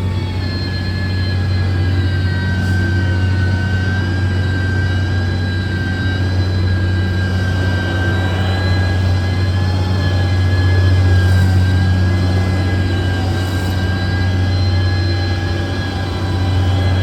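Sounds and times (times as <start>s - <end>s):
heavy machine engine running: 0.0s - 17.0s
high whine: 0.0s - 17.0s.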